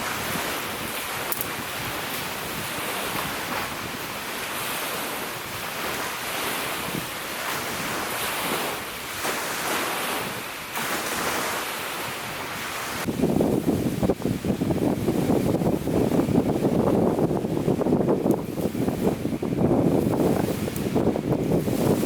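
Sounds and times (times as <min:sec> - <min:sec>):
lake waves washing against shore: 0:00.0 - 0:22.0
strong gusty wind: 0:00.0 - 0:22.0
wind buffeting microphone: 0:00.0 - 0:22.0.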